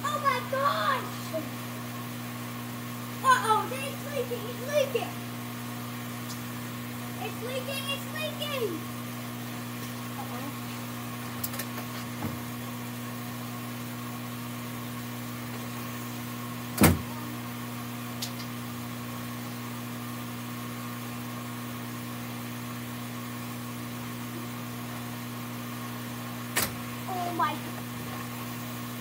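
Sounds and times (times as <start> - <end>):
machine humming: 0.0 - 29.0.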